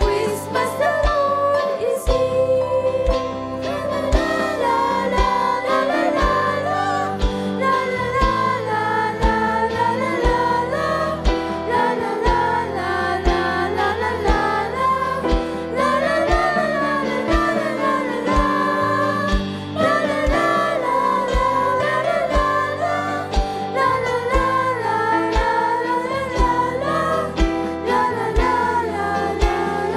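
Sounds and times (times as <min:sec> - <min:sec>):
backing track: 0:00.0 - 0:29.9
children's choir singing gospel: 0:00.0 - 0:29.9.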